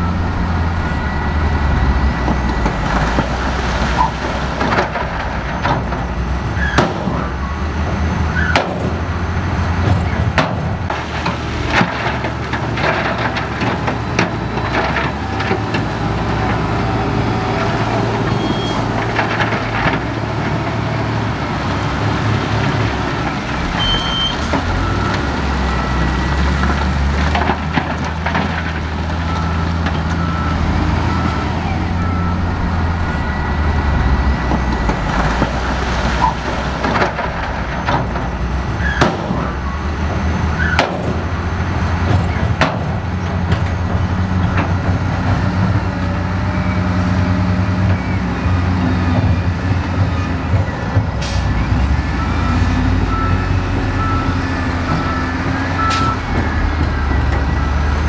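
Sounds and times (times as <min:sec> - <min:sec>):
diesel machinery engine running: 0:00.0 - 0:58.0.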